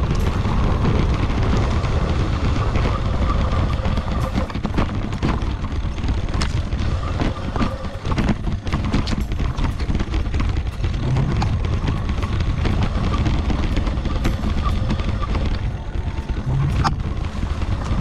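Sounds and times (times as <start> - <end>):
tyres clicking and rattling over roots: 0.0 - 18.0
wind buffeting microphone: 0.0 - 18.0.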